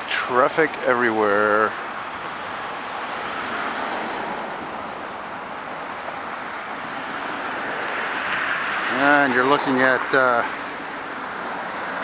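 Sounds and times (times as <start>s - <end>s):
highway traffic noise: 0.0s - 12.0s.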